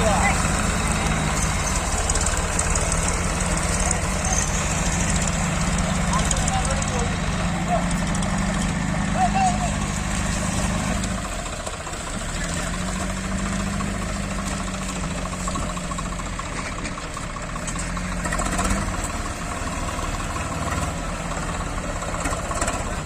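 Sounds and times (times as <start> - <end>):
diesel engine running at low revs: 0.0 - 23.0.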